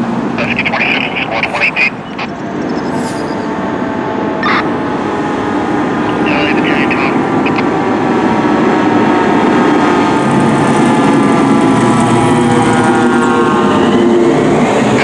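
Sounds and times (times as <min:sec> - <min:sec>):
fire truck siren: 0:00.0 - 0:15.0
heavy engine: 0:00.0 - 0:15.0.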